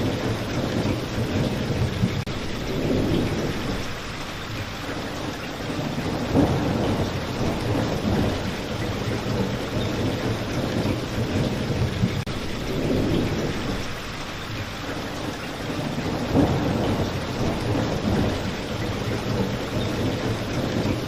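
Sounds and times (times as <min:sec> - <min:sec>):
low rumbling thunder: 0:00.0 - 0:04.6, 0:05.5 - 0:14.2, 0:15.5 - 0:21.0
heavy rain: 0:00.0 - 0:21.0.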